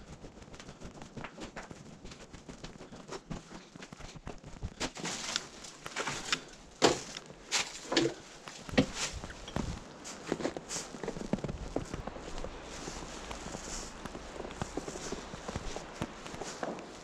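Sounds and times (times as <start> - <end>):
footsteps crackling over debris: 0.0 - 17.0.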